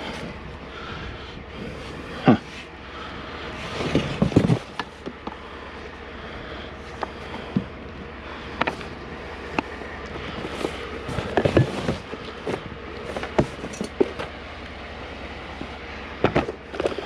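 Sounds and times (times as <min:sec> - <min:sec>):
junk being handled and shifted: 0:00.0 - 0:05.9, 0:06.7 - 0:14.8, 0:15.4 - 0:17.0
steady low rumble: 0:00.0 - 0:17.0.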